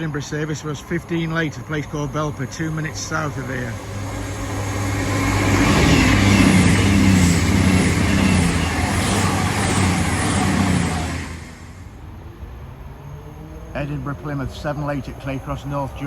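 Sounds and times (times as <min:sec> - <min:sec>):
train diesel engines humming: 0:00.0 - 0:16.0
train wheel and rail noise: 0:00.0 - 0:16.0.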